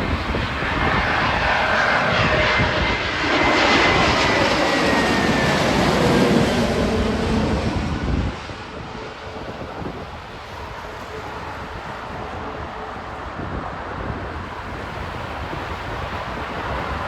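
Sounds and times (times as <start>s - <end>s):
jet airliner noise: 0.0s - 17.0s.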